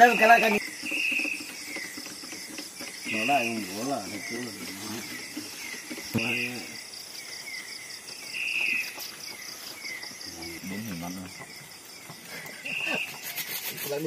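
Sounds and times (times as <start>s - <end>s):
crickets and insects trilling: 0.0s - 14.0s
insect buzzing call: 0.0s - 14.0s.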